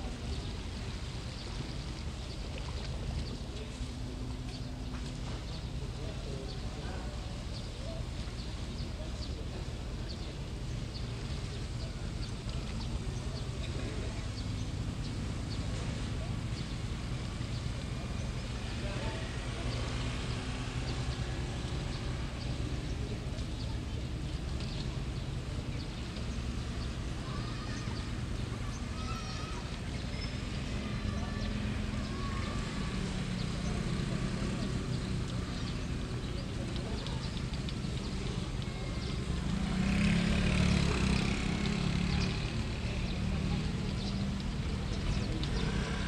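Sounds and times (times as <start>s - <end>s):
engine humming: 0.0s - 46.0s
faint outdoor background noise: 0.0s - 46.0s.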